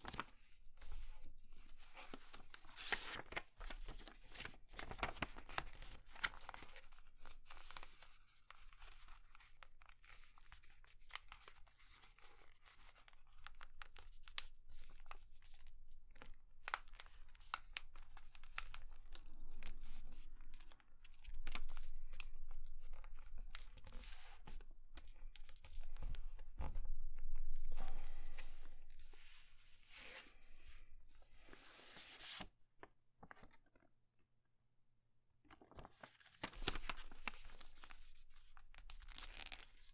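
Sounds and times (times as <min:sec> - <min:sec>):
paper being folded and creased: 0:00.0 - 0:32.5, 0:35.5 - 0:39.9.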